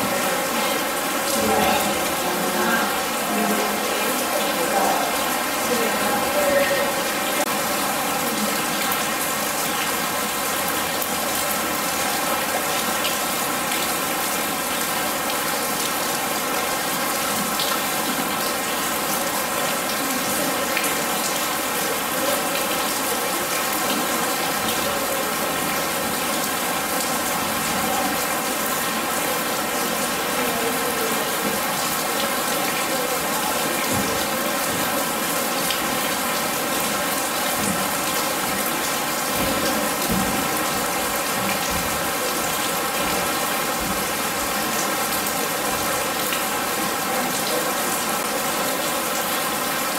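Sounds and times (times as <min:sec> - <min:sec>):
rain on corrugated metal: 0:00.0 - 0:49.9.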